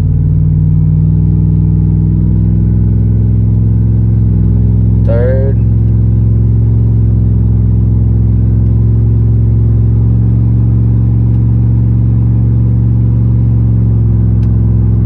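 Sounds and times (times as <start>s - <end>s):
pickup engine drone: 0.0s - 15.0s.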